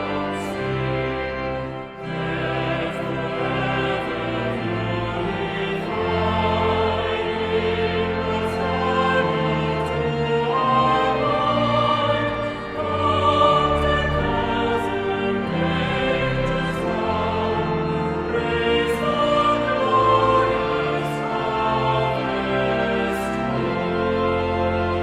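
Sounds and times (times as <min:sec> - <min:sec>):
choir singing held chords: 0:00.0 - 0:25.0
instrumental accompaniment: 0:00.0 - 0:25.0.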